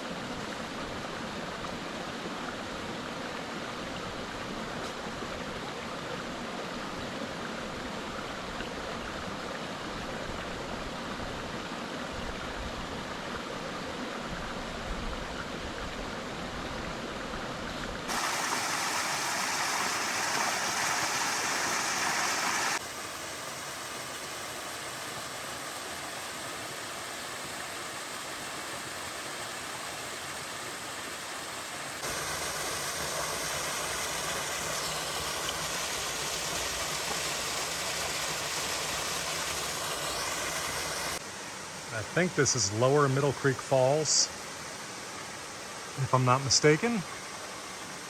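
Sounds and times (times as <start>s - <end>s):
waterfall and creek rushing: 0.0s - 48.0s.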